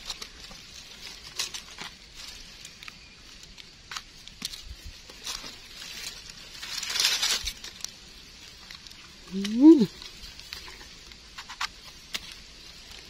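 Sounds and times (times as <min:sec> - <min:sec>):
leaf litter crackling and rustling: 0:00.0 - 0:13.0
mushrooms pulled from ground: 0:00.0 - 0:13.0.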